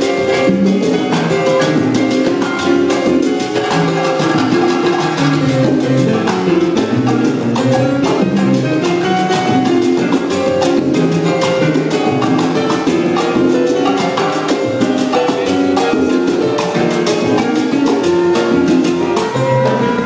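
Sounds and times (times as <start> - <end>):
congas: 0.0 - 20.0
salsa band playing live: 0.0 - 20.0
upright bass: 0.0 - 20.0.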